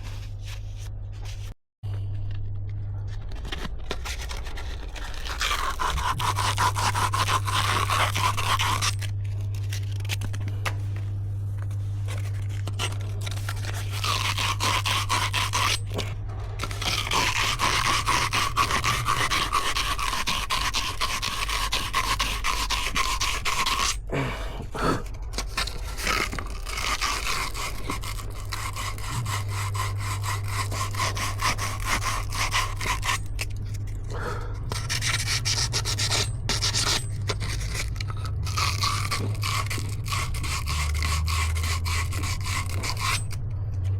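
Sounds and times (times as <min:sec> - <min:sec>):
low hum: 0:00.0 - 0:43.9
rough abrasive scraping: 0:03.6 - 0:10.2, 0:11.8 - 0:24.0, 0:25.2 - 0:34.0, 0:34.7 - 0:43.6.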